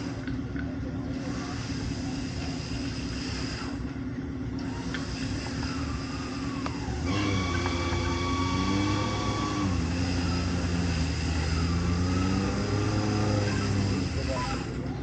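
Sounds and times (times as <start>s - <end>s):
engine running under load: 0.0s - 15.0s
high mechanical whine: 0.0s - 15.0s.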